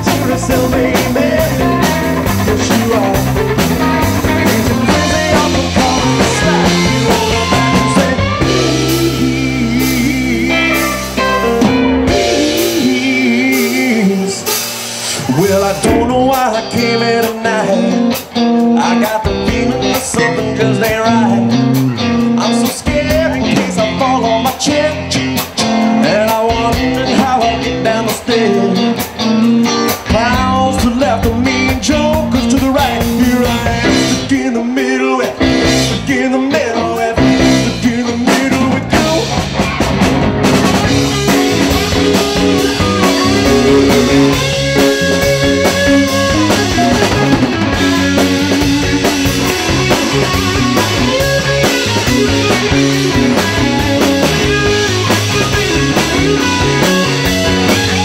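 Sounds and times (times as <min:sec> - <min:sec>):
man singing: 0:00.0 - 0:39.6, 0:40.8 - 0:58.0
drum kit: 0:00.0 - 0:58.0
electric guitar: 0:00.0 - 0:58.0.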